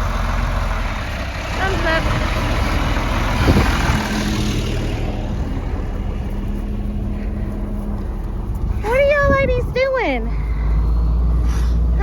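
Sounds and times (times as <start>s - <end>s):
wind buffeting microphone: 2.0s - 12.0s.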